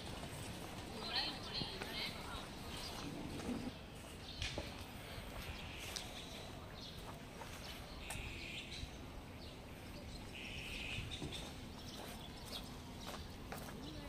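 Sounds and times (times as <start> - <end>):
low street background noise: 0.0 - 14.0.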